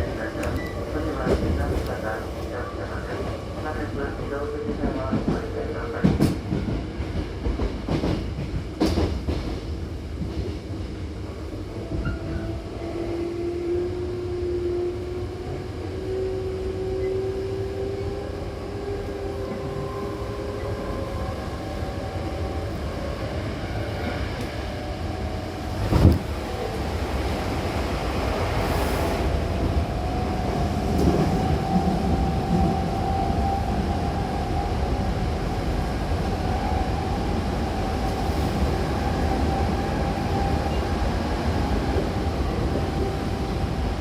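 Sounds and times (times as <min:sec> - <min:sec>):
train rumble: 0:00.0 - 0:44.0.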